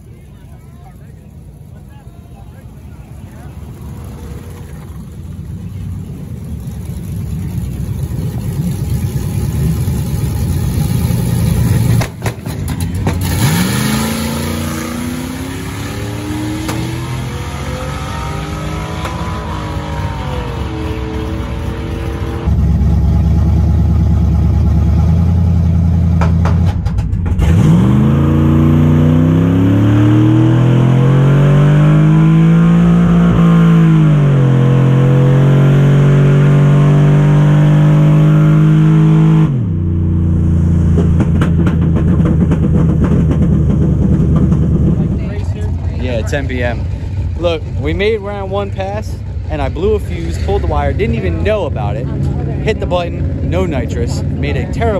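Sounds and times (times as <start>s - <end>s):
drag racing engines at full throttle: 0.0s - 54.9s.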